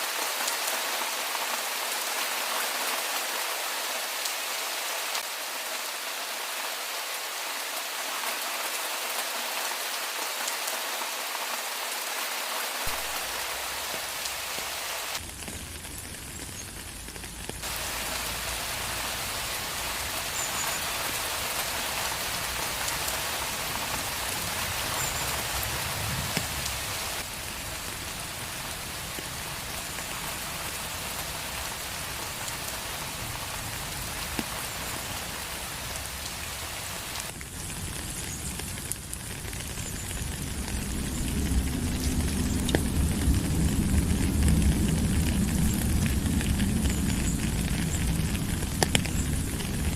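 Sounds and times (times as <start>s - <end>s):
rain falling on a street: 0.0s - 49.9s.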